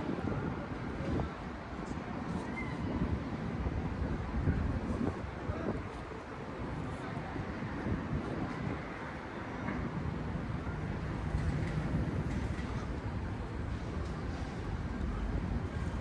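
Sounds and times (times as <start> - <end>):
city ambience rumble: 0.0 - 16.0.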